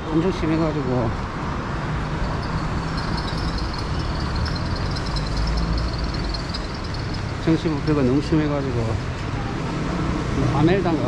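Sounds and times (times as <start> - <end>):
vehicle engines running: 0.0 - 11.0
vehicle passing rumble: 0.8 - 11.0.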